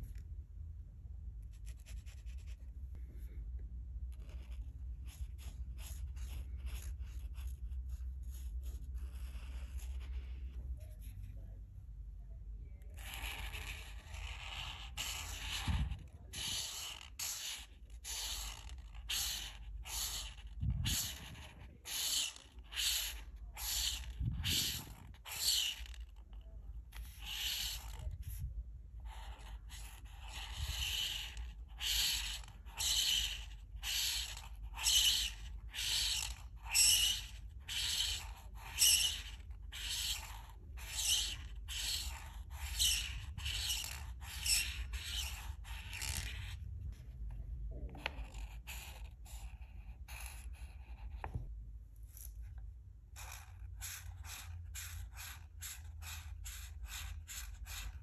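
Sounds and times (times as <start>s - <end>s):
marker rubbing on paper: 1.4s - 2.8s, 4.1s - 11.5s, 12.7s - 58.0s.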